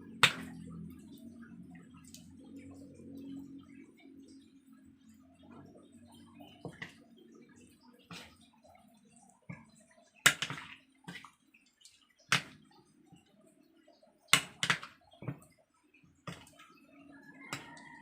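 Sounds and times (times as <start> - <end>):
wet squelches of batter mixing: 0.0 - 18.0.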